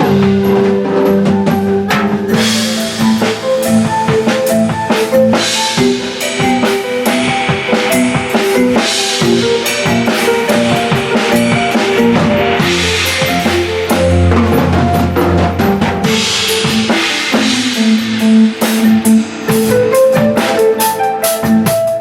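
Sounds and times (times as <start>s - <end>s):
sustained pitched notes: 0.0s - 21.0s
drum kit groove: 0.0s - 22.0s
crashing cymbals: 1.6s - 15.4s, 16.0s - 21.9s.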